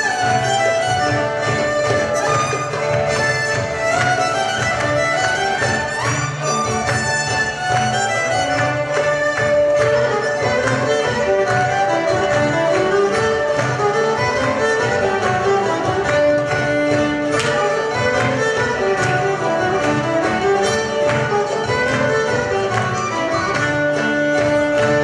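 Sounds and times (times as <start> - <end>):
laouto: 0.0 - 25.0
violins playing melody: 0.0 - 25.0.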